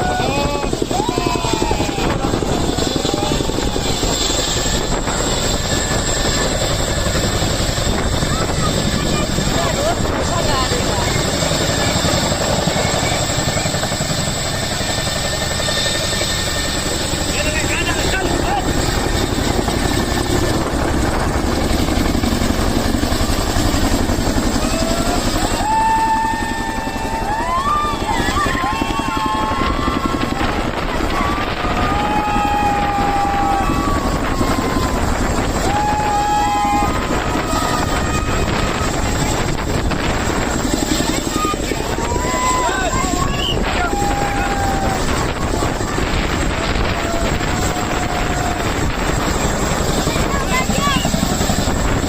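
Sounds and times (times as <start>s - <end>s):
wind on microphone: 0.0s - 15.1s, 16.4s - 52.0s
helicopter flying by: 0.0s - 52.0s
long high steady tones: 0.0s - 52.0s.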